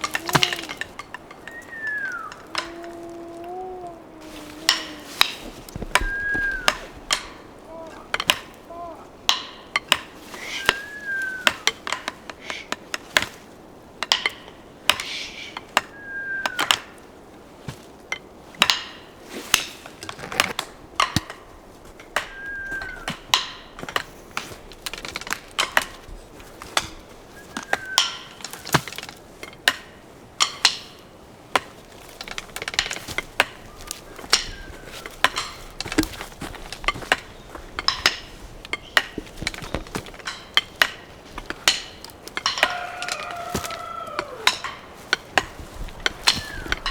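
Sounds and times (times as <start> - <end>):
woodpecker pecking at wood: 0.0 - 13.4, 19.6 - 46.9.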